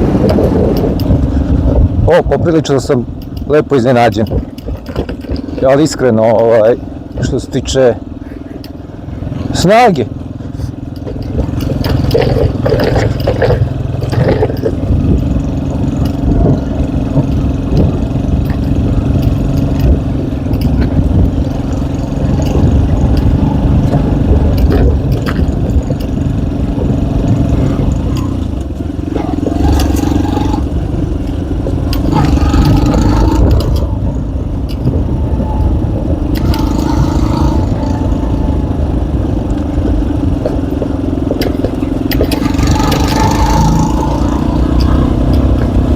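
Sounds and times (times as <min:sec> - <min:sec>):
motorcycle engine under load: 0:00.0 - 0:45.9.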